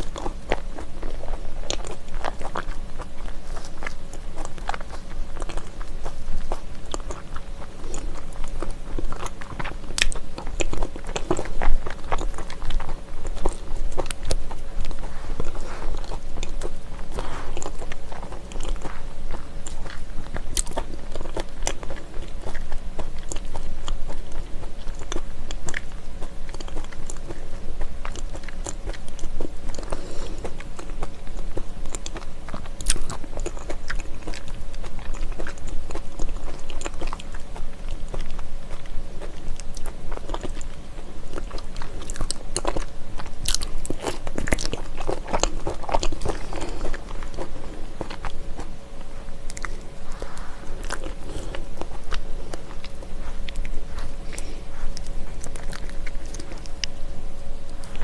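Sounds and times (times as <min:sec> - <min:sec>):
chewing: 0:00.0 - 0:58.0.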